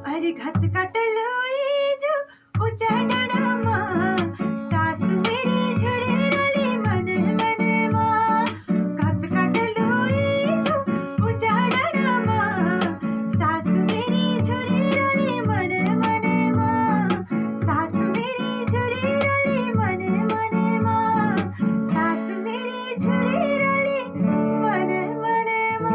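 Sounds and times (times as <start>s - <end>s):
woman singing: 0.0s - 25.9s
guitar strumming: 2.7s - 25.9s.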